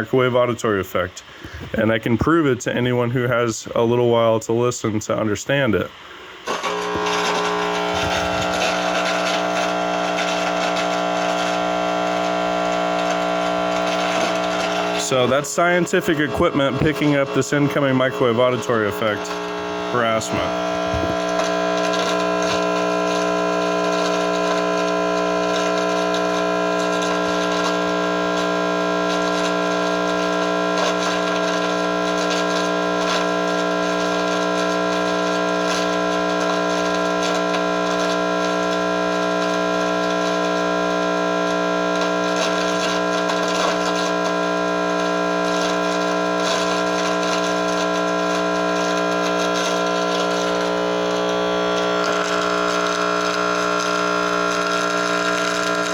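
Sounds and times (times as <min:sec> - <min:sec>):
electronic buzz from detector: 0:06.1 - 0:55.9.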